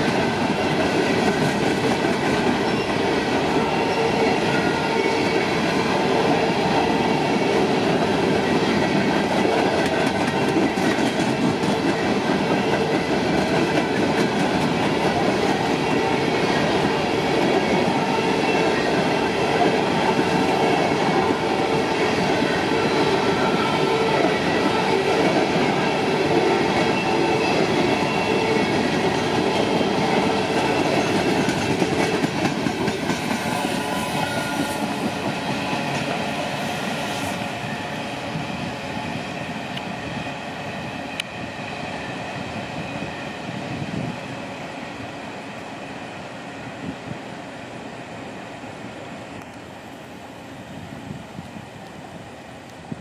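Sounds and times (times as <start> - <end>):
freight train wheels clacking: 0.0 - 44.1.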